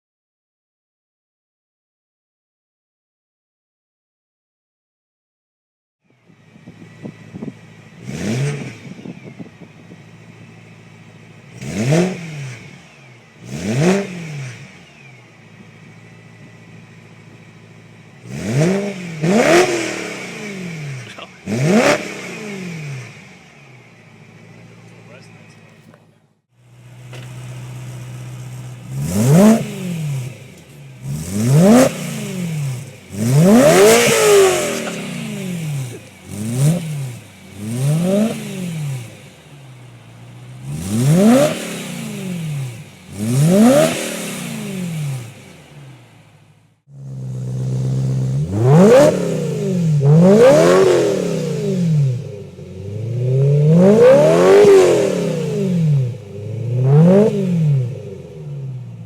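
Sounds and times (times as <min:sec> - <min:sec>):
car engine revving: 0:06.1 - 0:59.0.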